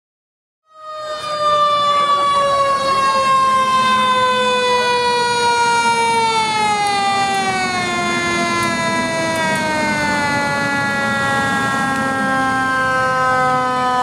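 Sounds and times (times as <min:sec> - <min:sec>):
fire truck siren: 0:00.6 - 0:14.0.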